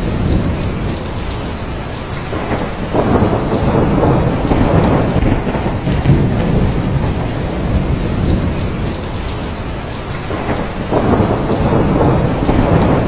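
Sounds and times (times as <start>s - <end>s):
heavy rain: 0.0s - 13.0s
thunder rumbling: 0.0s - 13.0s.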